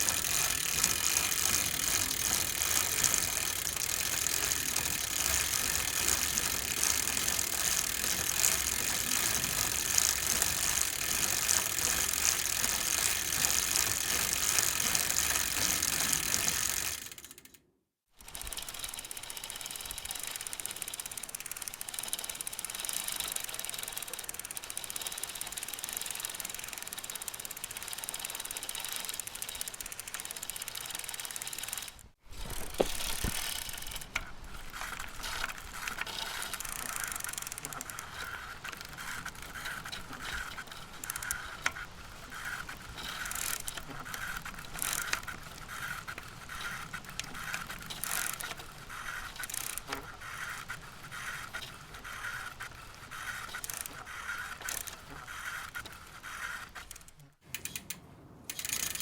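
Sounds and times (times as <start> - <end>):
bicycle chain and drivetrain running: 0.0 - 17.6, 18.2 - 59.0.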